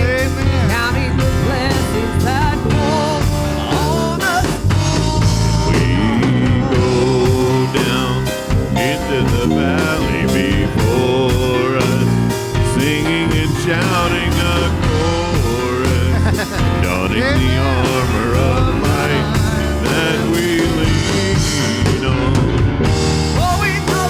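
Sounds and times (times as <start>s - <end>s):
drum kit: 0.0s - 24.0s
worship band playing: 0.0s - 24.0s.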